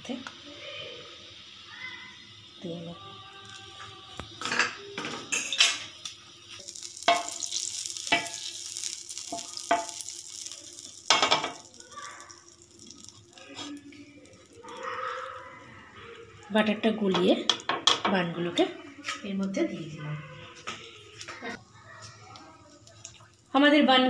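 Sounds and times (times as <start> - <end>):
butter sizzling on a pan: 0.0 - 24.0.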